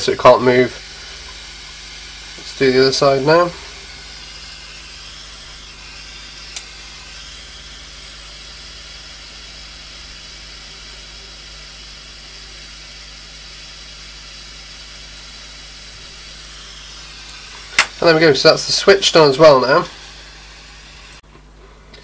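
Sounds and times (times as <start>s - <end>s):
low electrical hum: 0.0s - 22.0s
steady hiss: 0.0s - 22.0s.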